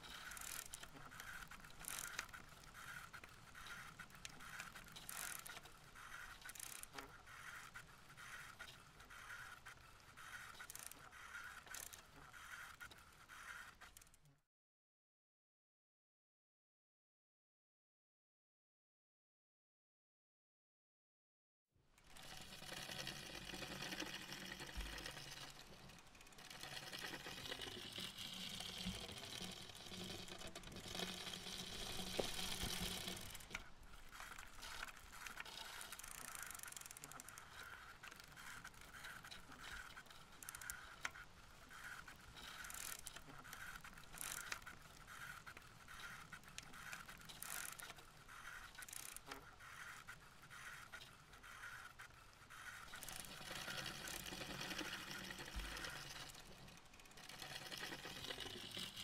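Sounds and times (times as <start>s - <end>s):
bicycle drivetrain clicking: 0.0s - 14.3s, 22.0s - 59.0s.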